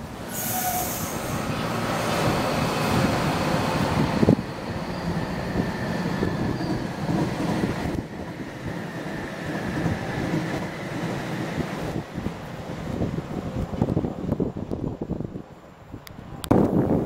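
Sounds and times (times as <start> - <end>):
train rail rumble: 0.0 - 17.0.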